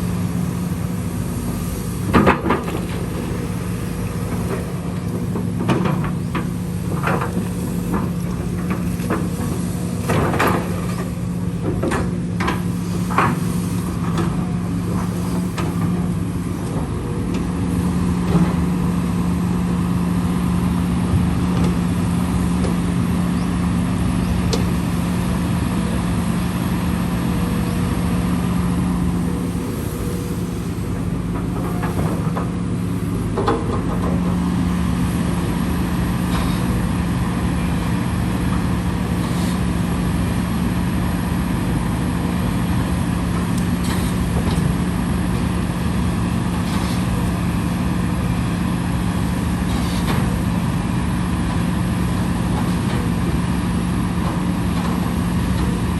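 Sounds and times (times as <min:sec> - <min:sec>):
heavy machine engine humming: 0:00.0 - 0:55.9.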